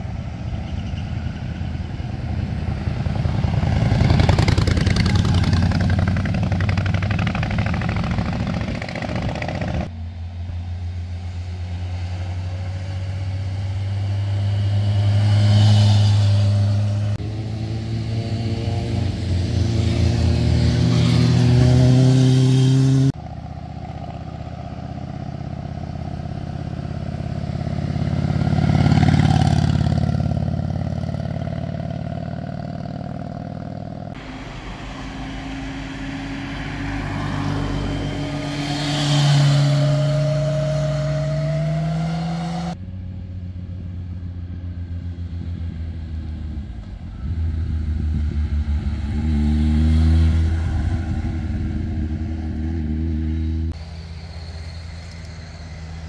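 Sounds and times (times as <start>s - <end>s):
motorcycle engines passing: 0.0s - 56.0s.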